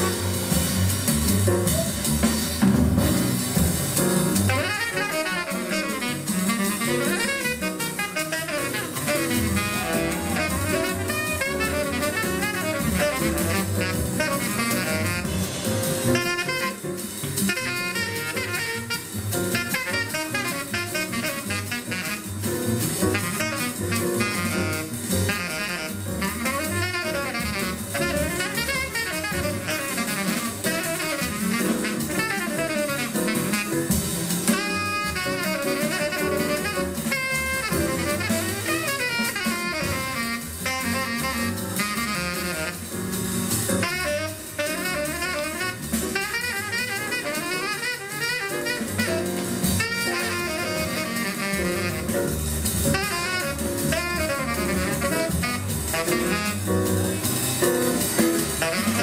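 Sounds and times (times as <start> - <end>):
drum kit: 0.0 - 59.0
saxophone: 4.4 - 59.0.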